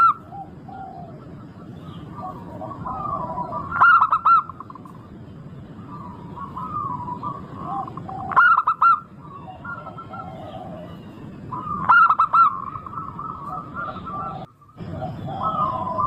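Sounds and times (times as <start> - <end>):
doves cooing: 0.0 - 16.0
loud arched bird notes: 0.0 - 16.0.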